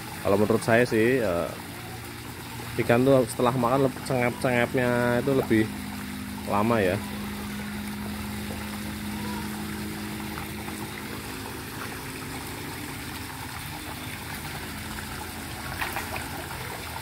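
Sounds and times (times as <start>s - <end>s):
low steady hum: 0.0s - 17.0s
water splashing into pond: 0.0s - 17.0s.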